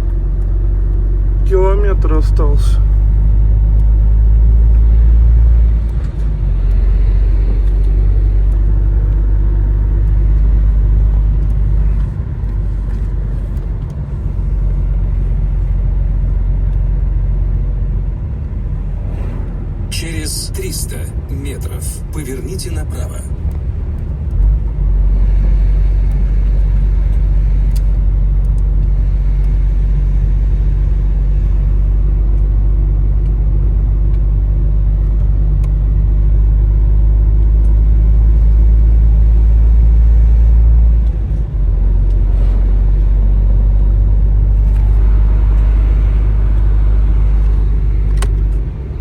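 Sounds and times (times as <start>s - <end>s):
road noise: 0.0s - 49.0s
truck diesel engine droning: 0.0s - 49.0s.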